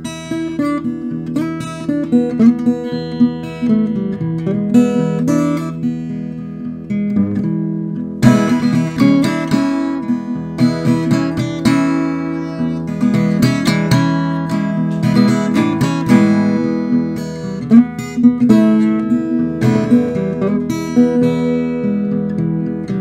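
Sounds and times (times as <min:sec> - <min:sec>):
acoustic guitar blues: 0:00.0 - 0:23.0.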